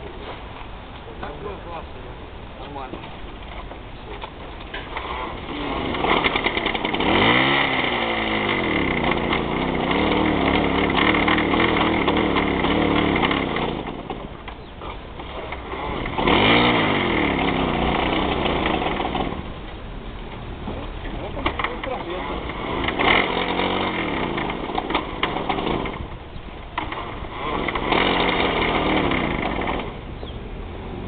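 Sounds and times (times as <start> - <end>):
moped engine starting and revving: 4.7 - 31.0.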